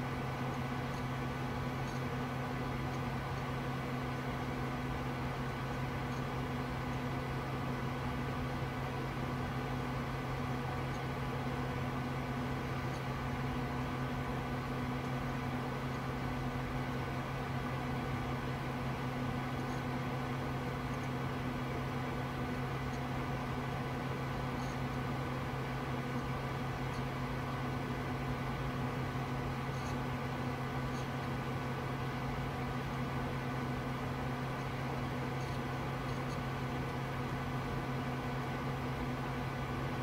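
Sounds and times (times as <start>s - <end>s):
computer fans whirring: 0.0s - 40.0s.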